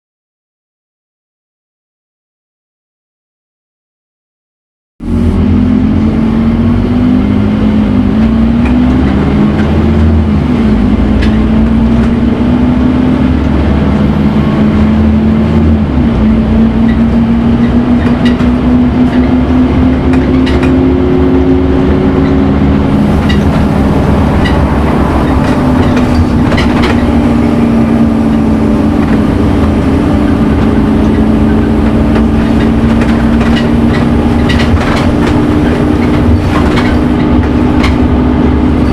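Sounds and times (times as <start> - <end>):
bus diesel engine pulling: 5.0 - 38.9
bus body rattles and ticks: 5.1 - 38.9.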